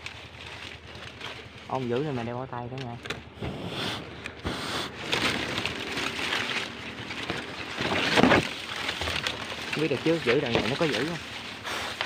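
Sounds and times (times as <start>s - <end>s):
dry palm fronds rustling: 0.0s - 12.0s.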